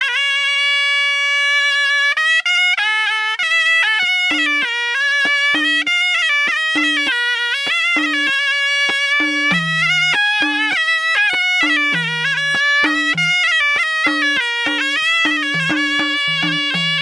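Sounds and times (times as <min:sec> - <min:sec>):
double-reed pipe melody: 0:00.0 - 0:17.0.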